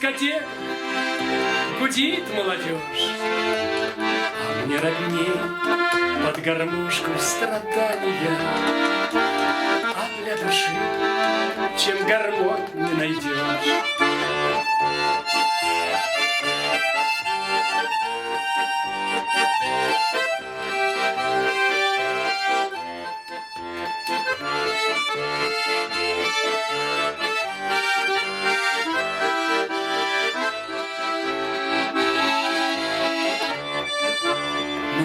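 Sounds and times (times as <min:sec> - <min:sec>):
accordion melody: 0:00.0 - 0:35.0.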